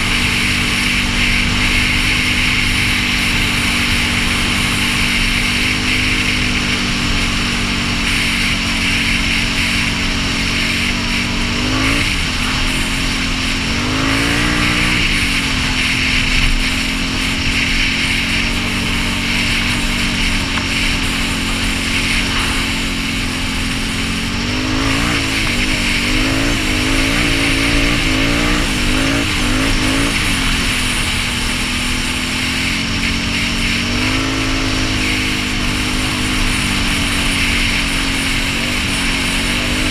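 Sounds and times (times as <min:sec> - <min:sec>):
atv engine revving: 0:00.0 - 0:39.9
rushing hiss of wind: 0:00.0 - 0:39.9.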